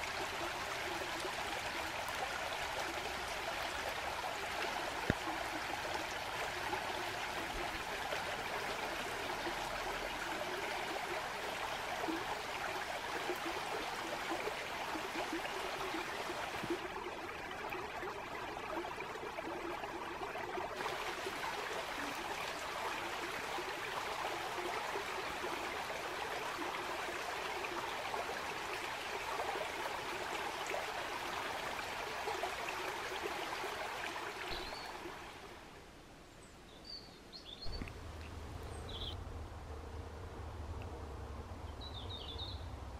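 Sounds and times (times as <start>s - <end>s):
woodland stream flowing: 0.0s - 42.9s.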